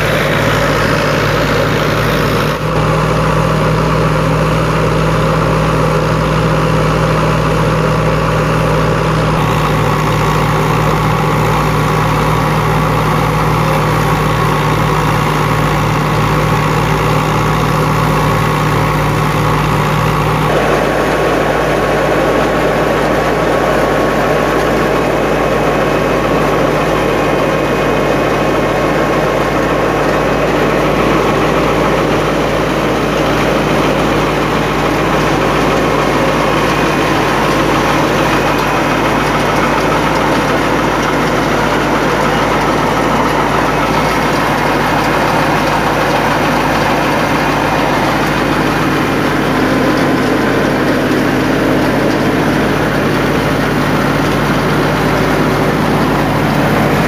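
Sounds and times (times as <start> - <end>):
diesel tractor engine running: 0.0 - 57.0
thresher drum and belts running: 0.0 - 57.0.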